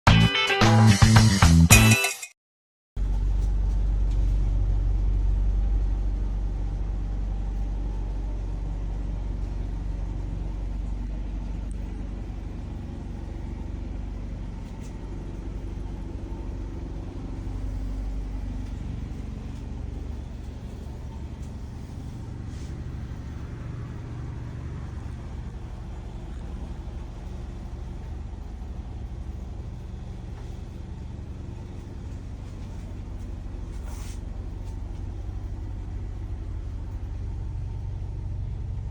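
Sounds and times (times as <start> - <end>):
engine idling: 3.0 - 38.9.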